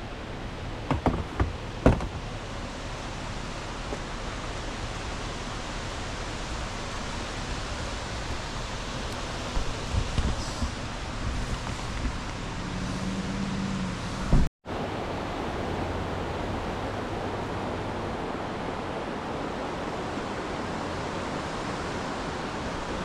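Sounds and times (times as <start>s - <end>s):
whitewater river rushing: 0.0s - 23.0s.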